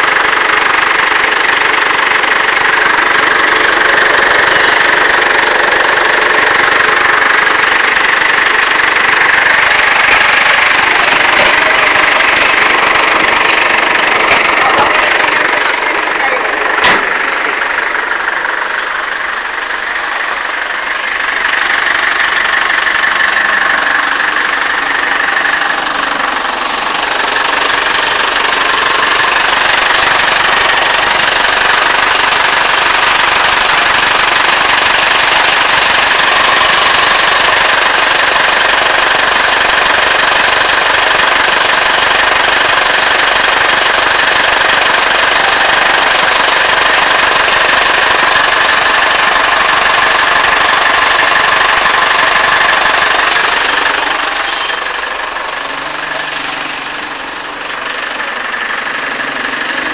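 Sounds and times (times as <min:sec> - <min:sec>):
engine running with noisy whir: 0:00.0 - 0:59.9.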